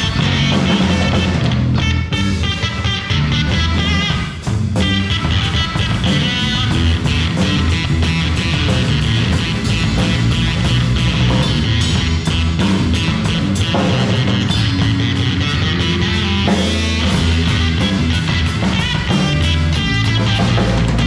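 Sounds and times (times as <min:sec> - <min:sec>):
bass guitar: 0:00.0 - 0:21.0
distorted electric guitar: 0:00.0 - 0:21.0.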